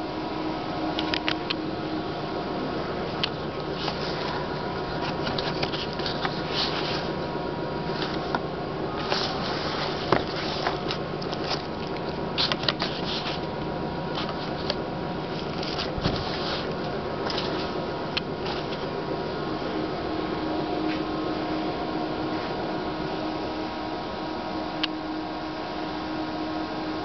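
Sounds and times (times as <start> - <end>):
faint steady tone: 0.0 - 12.4, 16.8 - 27.0
machine fans humming: 0.0 - 27.0.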